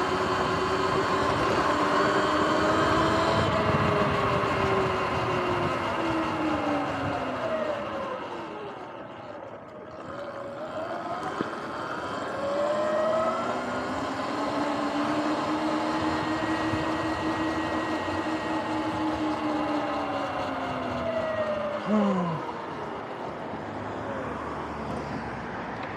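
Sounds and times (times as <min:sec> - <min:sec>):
electric motor whine: 0:00.0 - 0:25.2.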